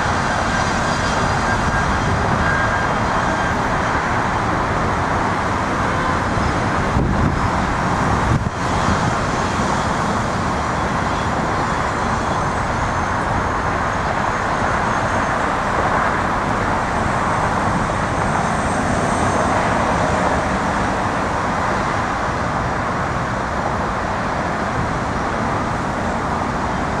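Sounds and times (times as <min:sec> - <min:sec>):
jet engines at takeoff thrust: 0:00.0 - 0:27.0.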